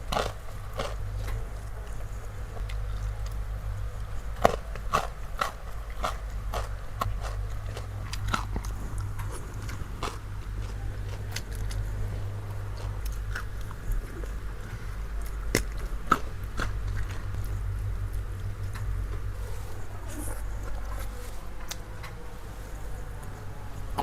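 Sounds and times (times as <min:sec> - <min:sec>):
person chewing crunchy food: 0:00.0 - 0:21.9.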